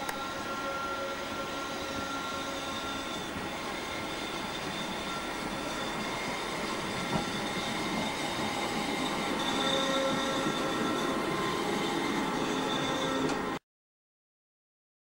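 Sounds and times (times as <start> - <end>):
train machinery whine and hum: 0.0 - 13.6.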